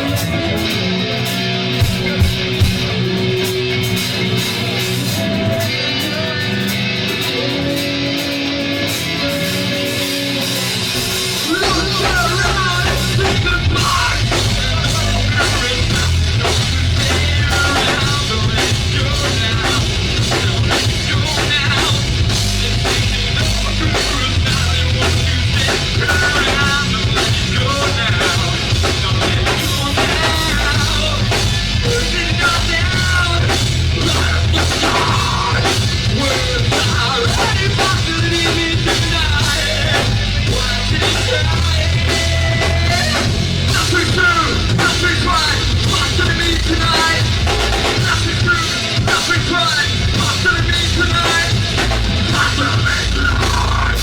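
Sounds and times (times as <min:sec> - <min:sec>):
electric guitar: 0:00.0 - 0:54.0
live rock band playing: 0:00.0 - 0:54.0.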